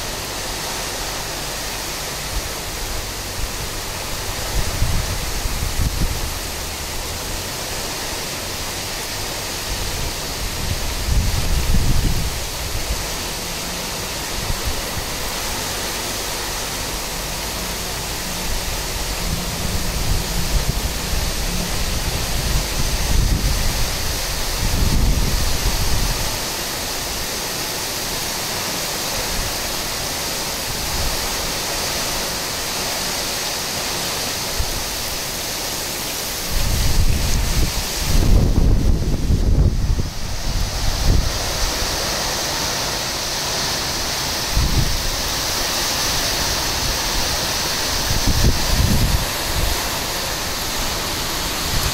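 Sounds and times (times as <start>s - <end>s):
wind gusts hitting microphone: 0.0s - 27.5s, 34.2s - 51.9s
heavy rain pouring: 0.0s - 51.9s.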